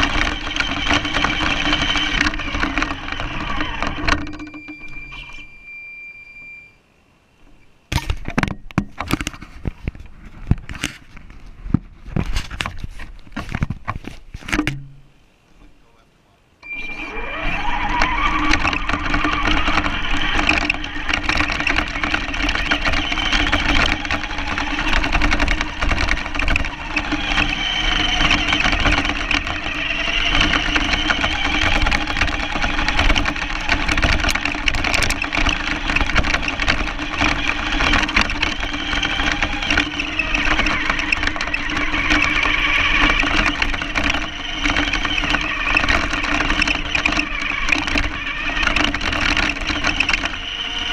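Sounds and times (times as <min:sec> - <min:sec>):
chassis and wheels rattling: 0:00.0 - 0:06.5, 0:16.6 - 0:50.9
rc car motor whining: 0:00.0 - 0:06.8, 0:16.6 - 0:50.9.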